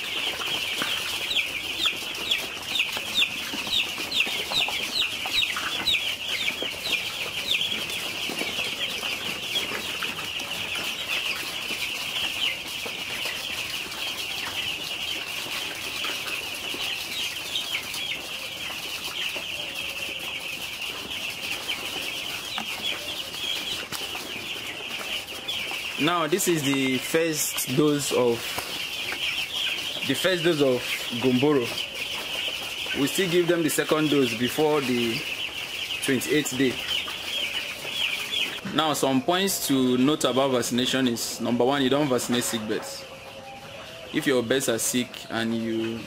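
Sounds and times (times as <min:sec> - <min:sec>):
chicks peeping: 0:00.0 - 0:46.0.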